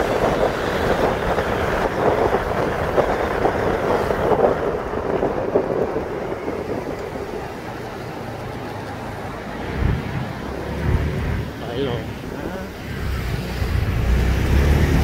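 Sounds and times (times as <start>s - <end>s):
road and traffic noise: 0.0s - 15.0s
wind buffeting microphone: 0.0s - 15.0s.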